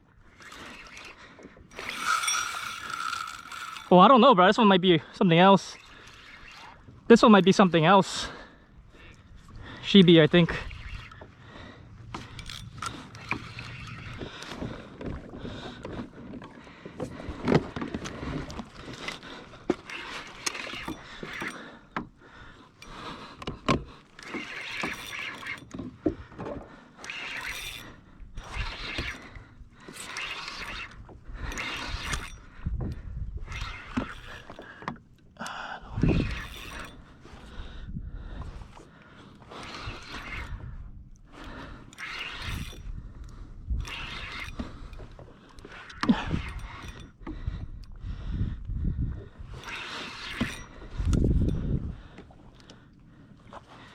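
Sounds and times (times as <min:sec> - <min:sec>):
water sloshing around kayak: 0:00.0 - 0:53.9.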